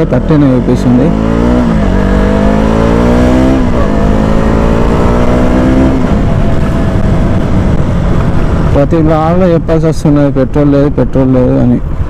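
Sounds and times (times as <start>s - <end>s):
motorcycle engine accelerating: 0.0s - 10.0s
low rumble: 0.8s - 12.0s.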